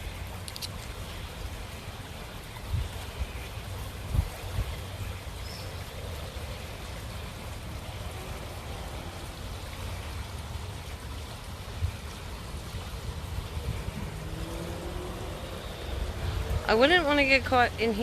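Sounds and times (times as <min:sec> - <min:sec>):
floodwater rushing: 0:00.0 - 0:18.0
wind rumbling on microphone: 0:00.0 - 0:18.0.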